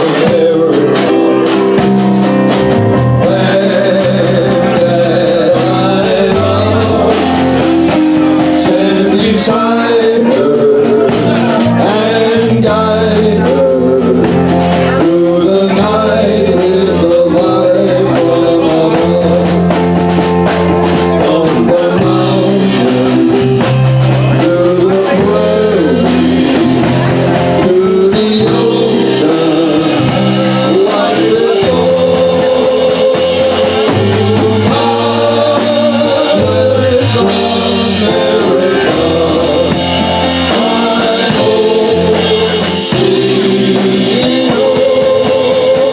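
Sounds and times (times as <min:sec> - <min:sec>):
live band playing: 0:00.0 - 0:45.9
man singing through pa: 0:00.0 - 0:45.9.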